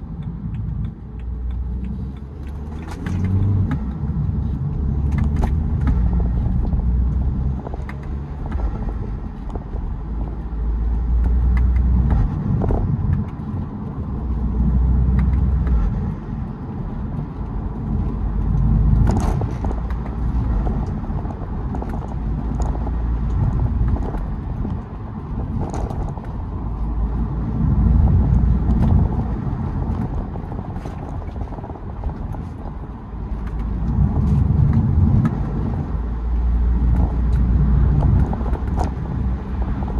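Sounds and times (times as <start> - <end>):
diesel car engine rumble: 0.0 - 39.9.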